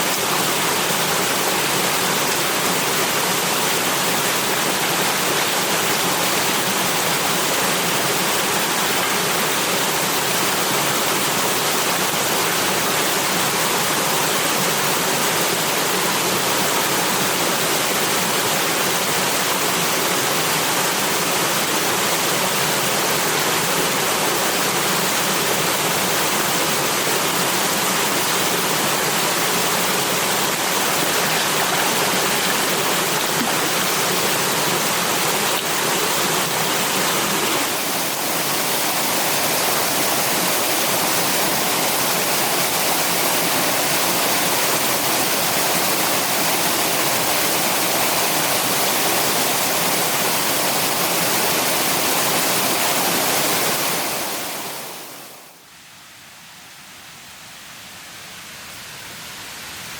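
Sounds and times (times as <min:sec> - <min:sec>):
running water rushing: 0:00.0 - 0:55.4.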